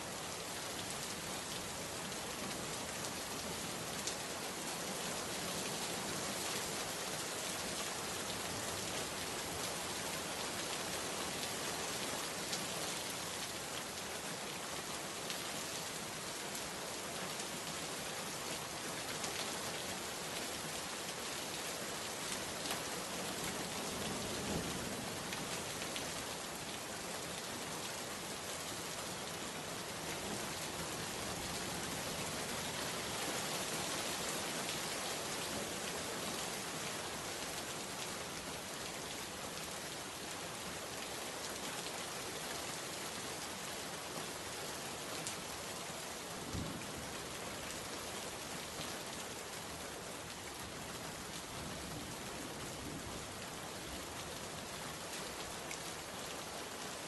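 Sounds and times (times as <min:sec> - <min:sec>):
rain pattering on surfaces: 0:00.3 - 0:57.0.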